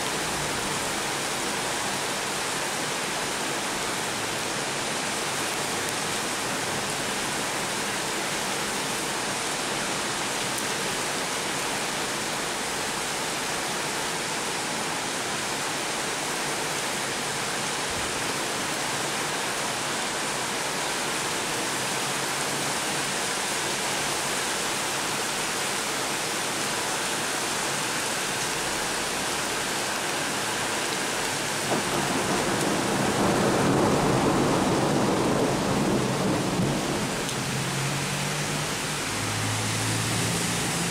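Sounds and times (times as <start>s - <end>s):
heavy rain on flooded street: 0.0s - 40.9s.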